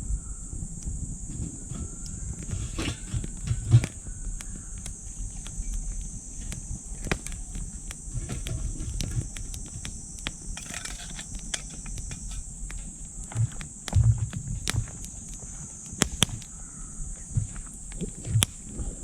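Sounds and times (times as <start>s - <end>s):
insect chorus: 0.0s - 19.0s
wood fire crackling: 0.2s - 19.0s
dull thumps: 1.2s - 19.0s.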